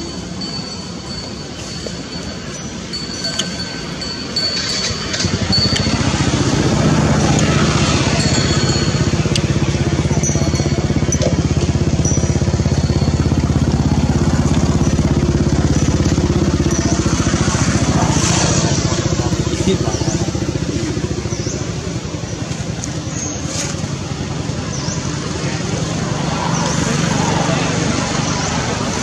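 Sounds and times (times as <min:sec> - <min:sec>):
small engine idling: 0:03.4 - 0:29.0.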